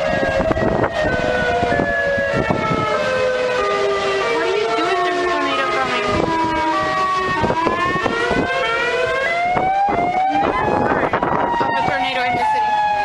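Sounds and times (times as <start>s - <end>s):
warning sirens wailing: 0.0s - 13.0s.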